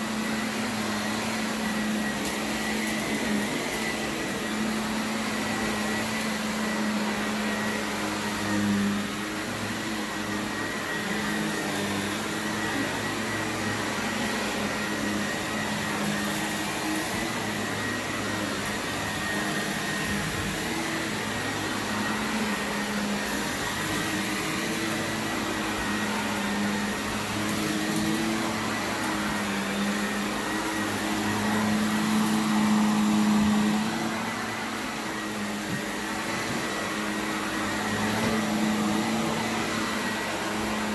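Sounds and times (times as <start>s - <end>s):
vacuum cleaner on carpet: 0.0s - 40.9s.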